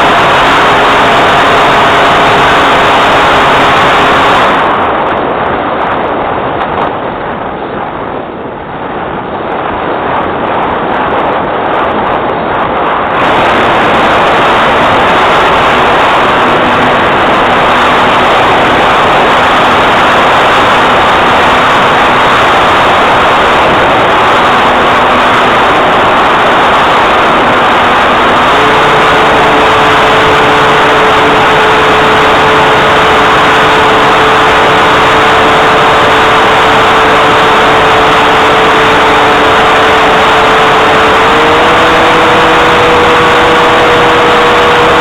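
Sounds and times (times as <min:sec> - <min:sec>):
propeller plane engine drone: 0:00.0 - 0:45.0
rushing airflow: 0:00.0 - 0:45.0.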